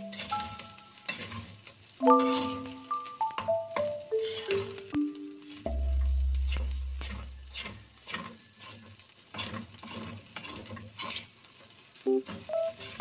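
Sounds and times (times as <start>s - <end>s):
metal spatula scraping a wok: 0.0s - 2.8s, 4.1s - 4.8s, 5.4s - 13.0s
faint frying sizzle: 0.0s - 13.0s.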